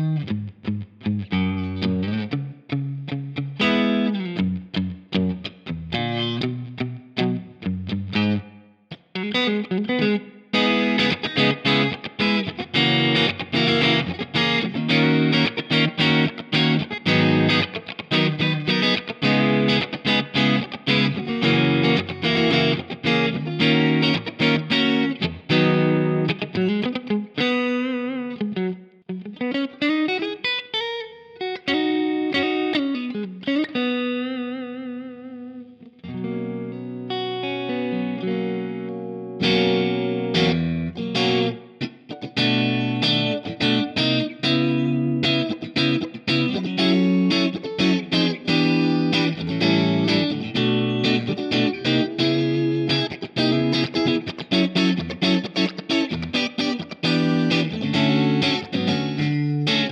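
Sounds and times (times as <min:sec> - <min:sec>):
electric guitar through amplifier: 0:00.0 - 0:59.9.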